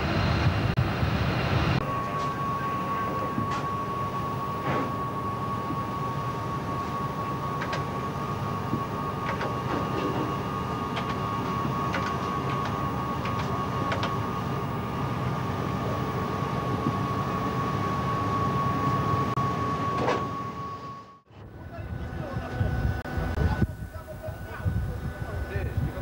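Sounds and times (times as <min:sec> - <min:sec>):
steady high tone: 0:00.0 - 0:22.5
ship machinery rumbling: 0:00.0 - 0:26.0.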